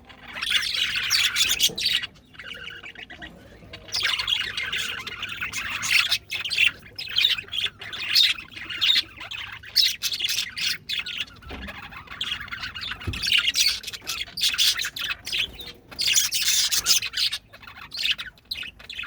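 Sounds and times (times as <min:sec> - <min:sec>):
budgerigars chattering: 0:00.0 - 0:19.0.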